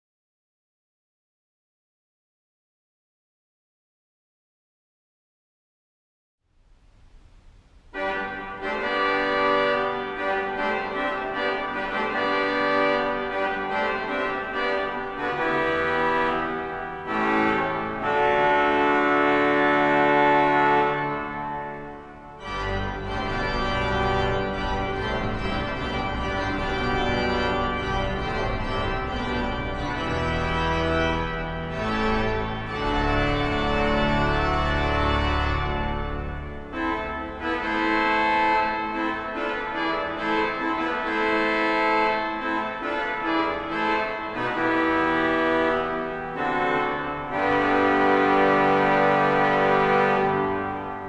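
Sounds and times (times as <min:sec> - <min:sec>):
organ pedal bass: 0:07.6 - 0:51.0
pipe organ playing full chords: 0:07.7 - 0:51.0.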